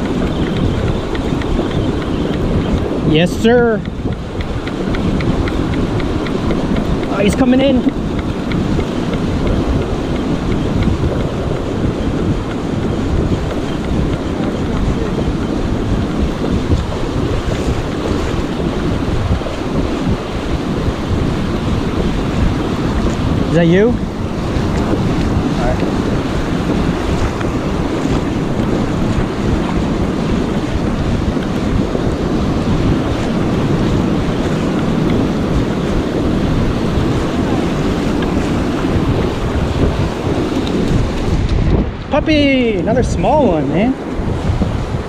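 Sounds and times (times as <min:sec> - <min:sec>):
breaking surf: 0:00.0 - 0:45.0
wind buffeting microphone: 0:00.0 - 0:45.0.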